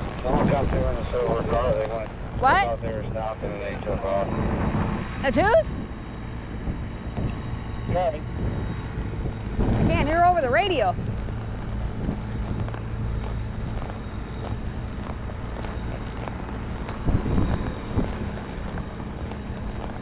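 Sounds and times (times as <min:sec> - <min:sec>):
horse hooves on dirt path: 0:00.0 - 0:20.0
low engine hum: 0:00.0 - 0:20.0
wind on microphone: 0:00.0 - 0:20.0.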